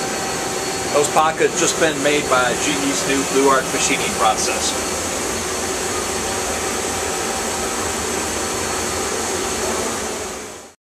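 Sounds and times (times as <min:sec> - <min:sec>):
machinery hiss and hum: 0:00.0 - 0:10.8.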